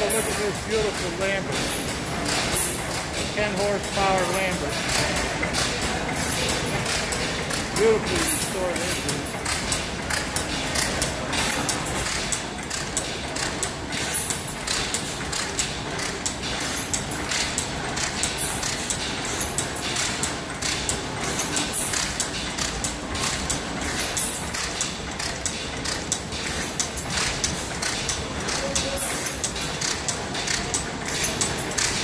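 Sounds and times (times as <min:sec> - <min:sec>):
mechanical clatter of clicks: 0:00.0 - 0:32.0.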